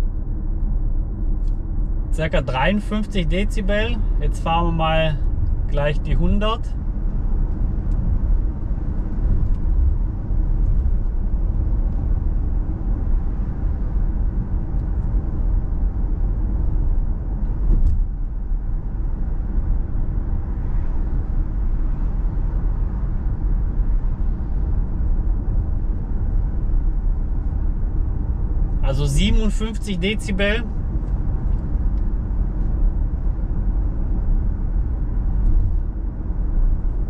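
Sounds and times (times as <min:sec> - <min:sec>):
car cabin road and wind noise: 0:00.0 - 0:37.0.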